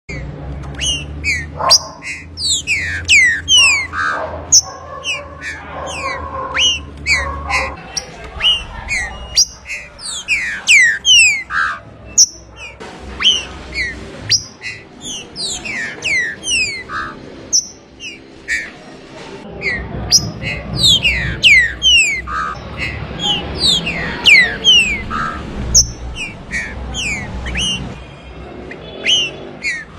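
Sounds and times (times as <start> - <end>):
bird whistling song: 0.1 - 18.8, 19.6 - 28.0, 28.7 - 29.9.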